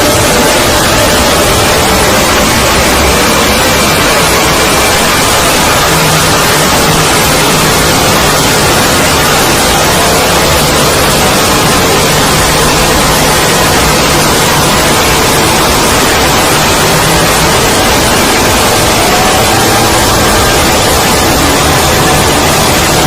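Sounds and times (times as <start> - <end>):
loud static noise: 0.0 - 23.0.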